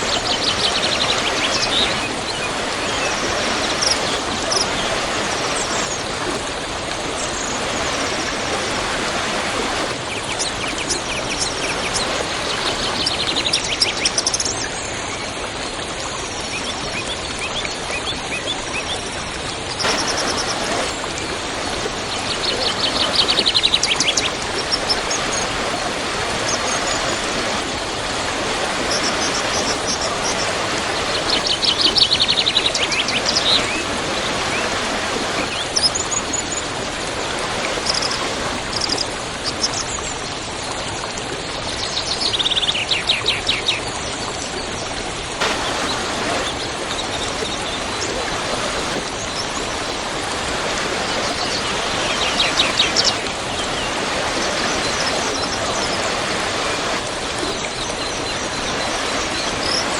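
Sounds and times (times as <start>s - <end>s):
waterfall rushing: 0.0s - 14.9s, 19.6s - 40.4s, 45.4s - 59.9s.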